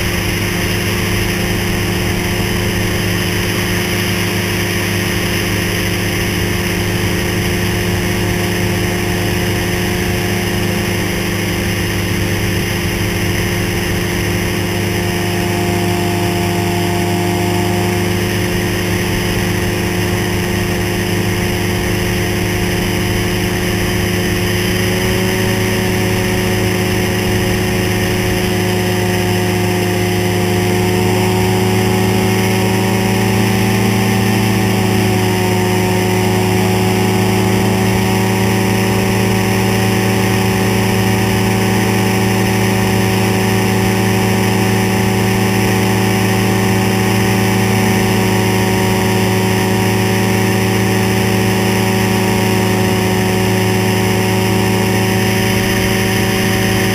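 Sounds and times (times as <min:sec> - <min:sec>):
ultralight engine and propeller: 0:00.0 - 0:56.9.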